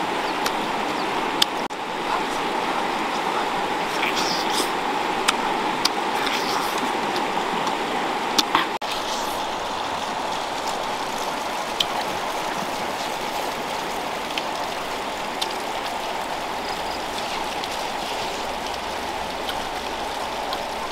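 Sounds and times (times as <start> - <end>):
river running over stones: 0.0 - 20.9.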